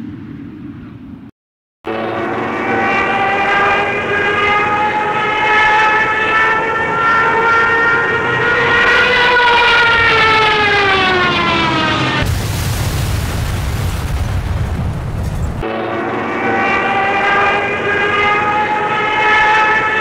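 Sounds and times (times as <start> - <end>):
propeller plane engine droning: 0.0 - 1.3, 1.9 - 12.4, 15.2 - 20.0.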